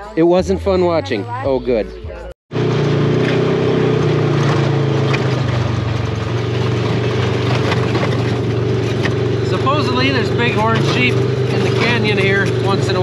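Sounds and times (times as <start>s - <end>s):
vehicle engine running: 2.2s - 13.0s
tyres on gravel: 2.5s - 13.0s.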